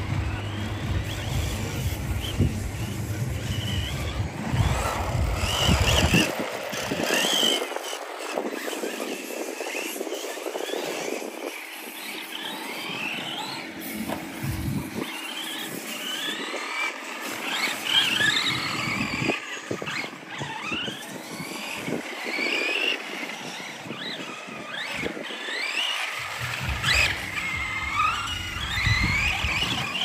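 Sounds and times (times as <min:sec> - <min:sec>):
rc car motors whining: 0:00.0 - 0:30.0.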